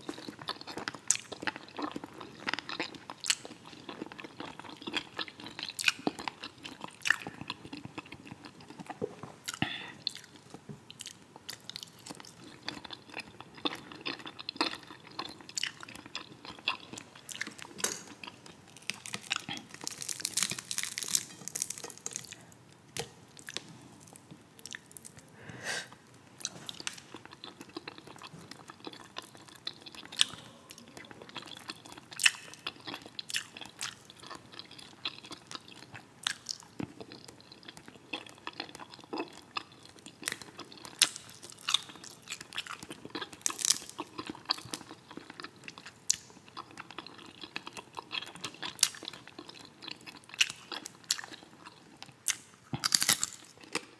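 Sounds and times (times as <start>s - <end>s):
chewing crunchy fried fish: 0.0s - 25.3s, 26.4s - 53.9s.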